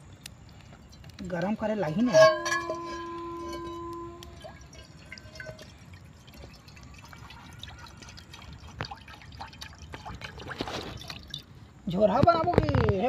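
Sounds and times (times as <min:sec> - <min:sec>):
water dripping and trickling: 0:00.0 - 0:12.6.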